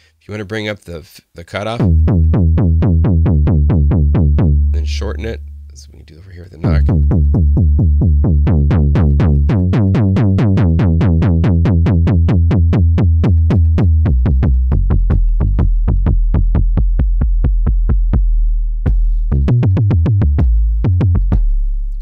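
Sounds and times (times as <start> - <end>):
synth sub bass repeated notes: 1.8 - 22.0.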